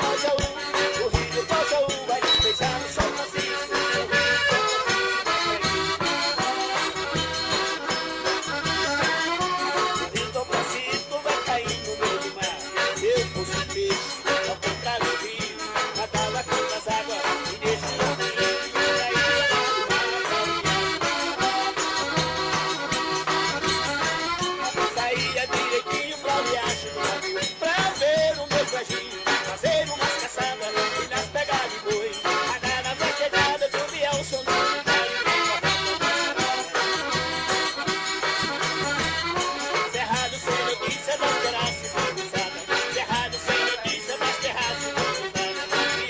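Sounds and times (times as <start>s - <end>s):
accordion playing chords and melody: 0.0s - 46.0s
rhythmic percussion beat: 0.0s - 46.0s.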